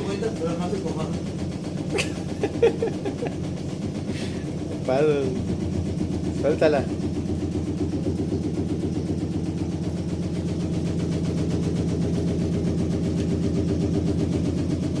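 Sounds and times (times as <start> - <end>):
rattle and knocking: 0.0 - 15.0
washing machine spinning: 0.0 - 15.0.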